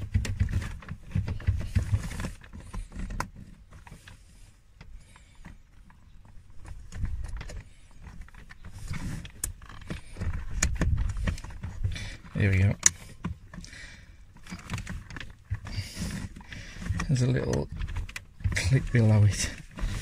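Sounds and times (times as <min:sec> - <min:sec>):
clicks and knocks on plastic trim: 0:00.0 - 0:04.2, 0:04.8 - 0:20.0.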